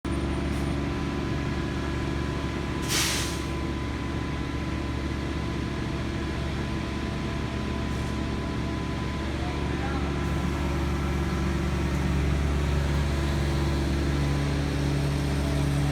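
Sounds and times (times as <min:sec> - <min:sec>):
heavy engine idling: 0:00.1 - 0:15.9.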